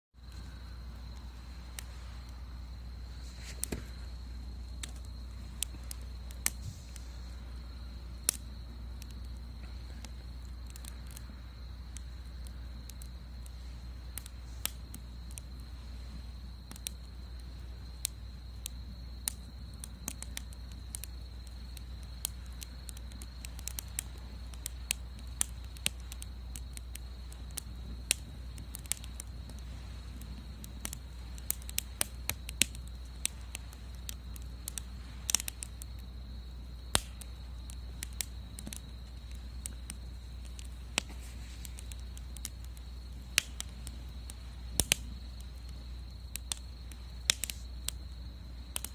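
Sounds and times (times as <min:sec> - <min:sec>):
wood fire crackling and popping: 0:00.2 - 0:48.9.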